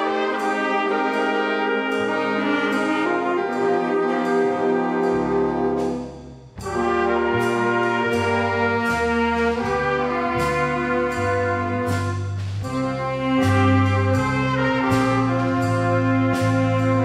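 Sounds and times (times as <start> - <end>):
big band playing: 0.0 - 17.0.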